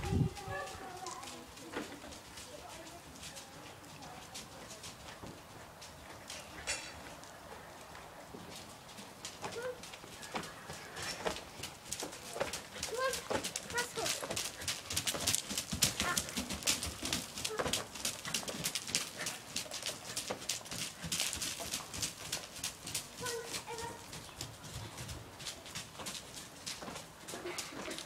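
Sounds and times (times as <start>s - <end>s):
horse hoofbeats on wood chips: 0.3s - 28.0s.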